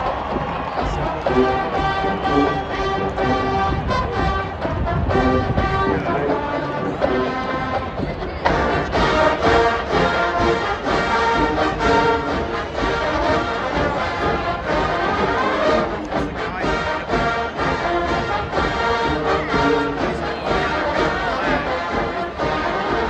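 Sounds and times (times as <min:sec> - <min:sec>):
marching band brass tune: 0:00.0 - 0:23.0
steady drum beat: 0:00.0 - 0:23.0.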